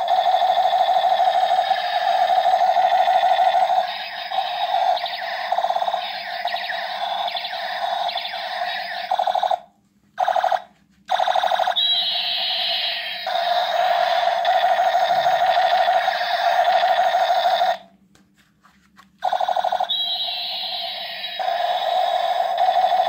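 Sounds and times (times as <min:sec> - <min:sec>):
toy gun electronic sound effect: 0:00.0 - 0:09.6, 0:10.2 - 0:17.8, 0:19.2 - 0:23.0.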